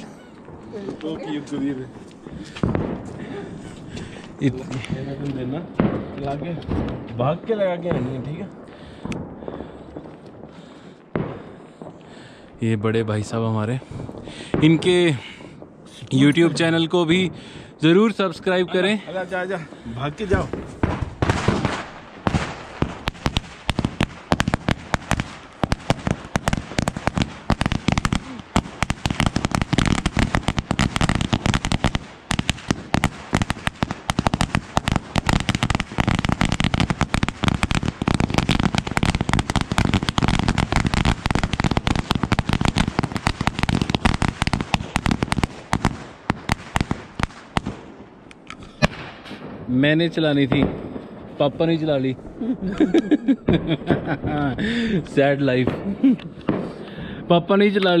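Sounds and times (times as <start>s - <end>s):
firecrackers banging: 0.0s - 17.7s, 19.6s - 57.1s.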